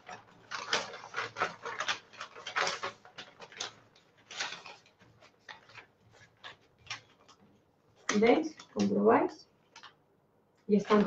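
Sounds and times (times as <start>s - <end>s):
stiff paper rustling: 0.0s - 9.0s, 10.8s - 11.0s.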